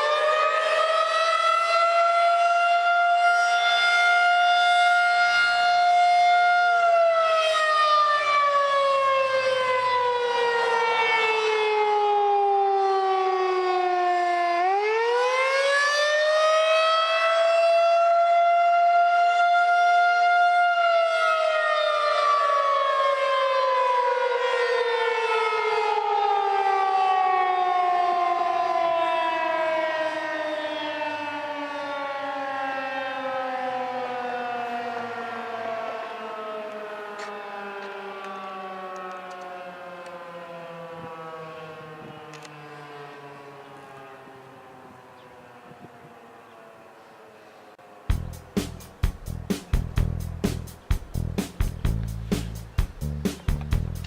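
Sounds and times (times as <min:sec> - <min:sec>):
warning siren: 0:00.0 - 0:54.0.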